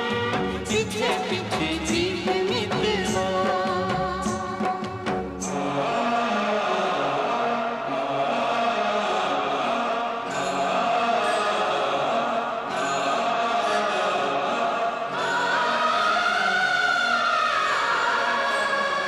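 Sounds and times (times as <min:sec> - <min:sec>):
slow chant-like choir: 0:03.1 - 0:19.0.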